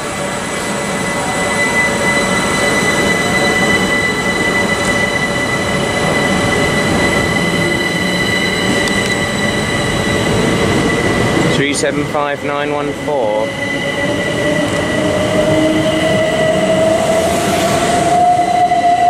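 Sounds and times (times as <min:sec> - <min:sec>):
electric train whining: 0:00.0 - 0:19.0
train wheels rumbling on track: 0:00.0 - 0:19.0.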